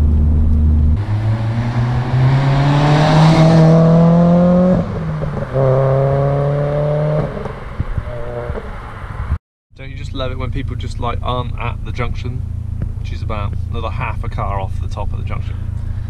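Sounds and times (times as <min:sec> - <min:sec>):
car engine accelerating: 0:00.0 - 0:16.0
exhaust crackles: 0:00.0 - 0:16.0.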